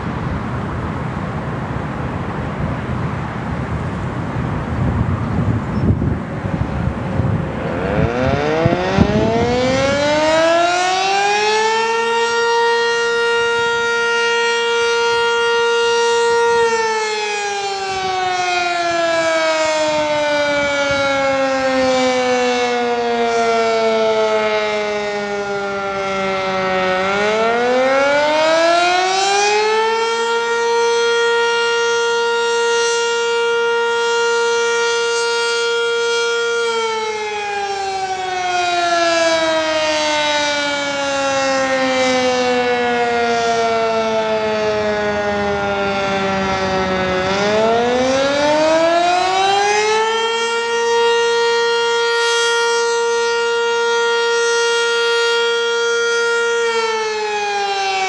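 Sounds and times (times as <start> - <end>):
warning siren wailing: 0.0 - 58.0.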